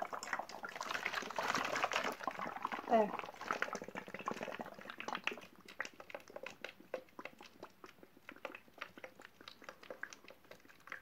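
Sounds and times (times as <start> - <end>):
water gurgling in a bottle: 0.0 - 11.0.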